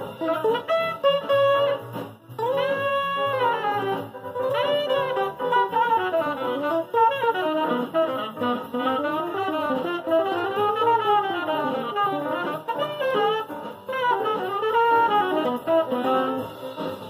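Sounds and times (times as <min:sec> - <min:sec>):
electric guitar jazz solo: 0:00.0 - 0:17.0.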